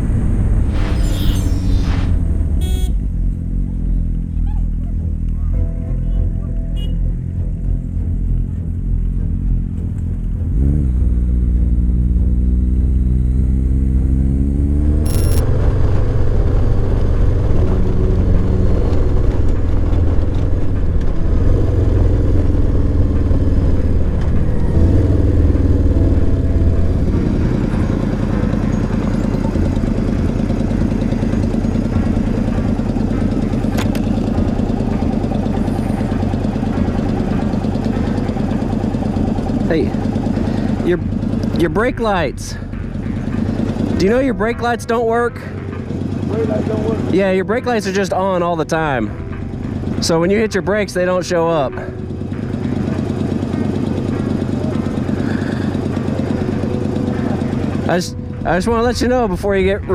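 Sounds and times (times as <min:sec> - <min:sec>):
motorcycle engine accelerating: 0:00.0 - 0:05.4, 0:07.2 - 0:50.6, 0:51.5 - 0:59.9.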